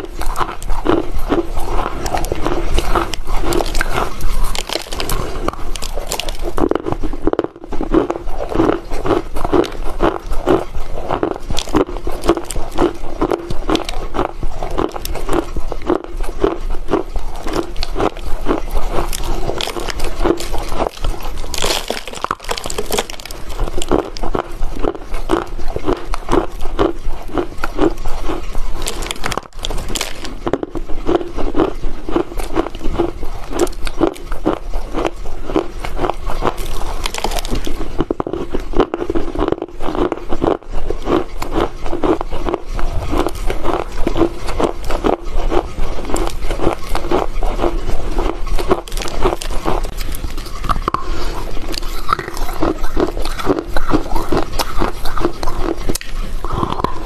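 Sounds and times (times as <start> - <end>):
dry crunching of chewing: 0.0 - 57.0.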